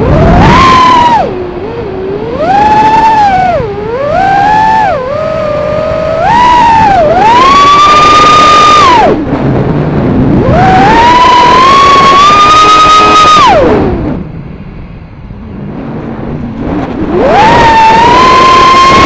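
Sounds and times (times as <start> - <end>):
quadcopter motors whining: 0.0 - 9.3, 10.4 - 14.3, 16.6 - 19.0.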